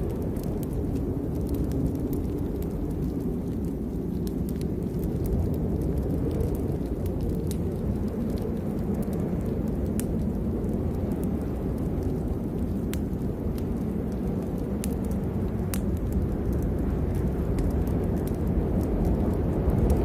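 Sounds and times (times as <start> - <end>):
fire crackling and popping: 0.0 - 20.0
low storm rumble: 0.0 - 20.0.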